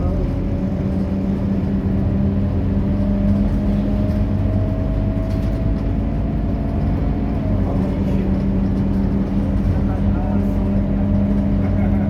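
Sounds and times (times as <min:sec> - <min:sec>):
bus diesel engine humming: 0:00.0 - 0:12.0.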